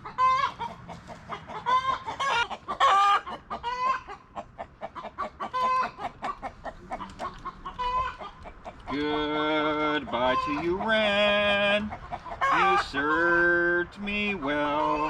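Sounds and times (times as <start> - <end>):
chicken calls: 0.0 - 15.0
chicken clucking: 0.0 - 15.0.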